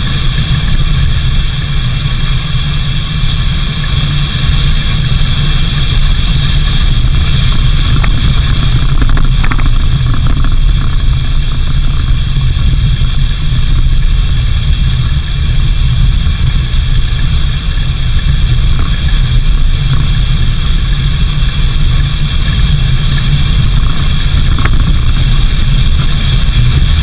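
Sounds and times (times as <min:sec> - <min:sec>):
vehicle low rumble: 0:00.0 - 0:27.0.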